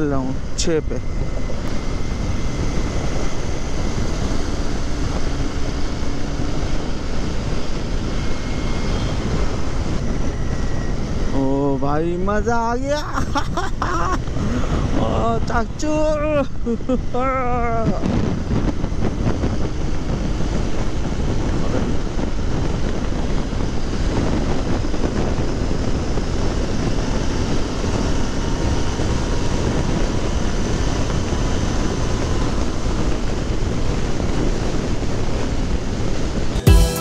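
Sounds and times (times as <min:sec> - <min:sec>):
road noise: 0:00.0 - 0:36.6
wind rushing on microphone: 0:00.0 - 0:36.6.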